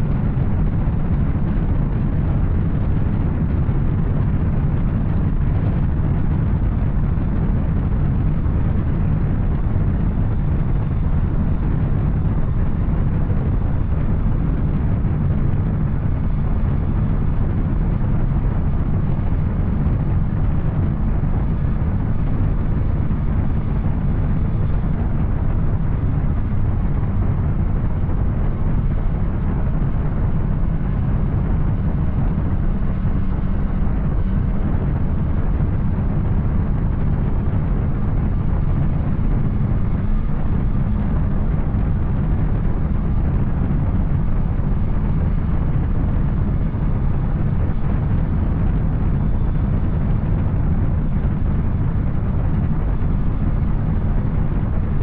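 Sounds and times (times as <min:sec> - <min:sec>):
motorcycle engine riding steadily: 0:00.0 - 0:55.0.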